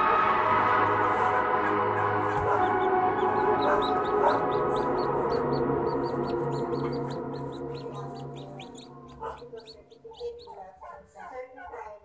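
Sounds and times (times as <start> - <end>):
background music: 0.0 - 11.1
chicks peeping: 0.1 - 11.4.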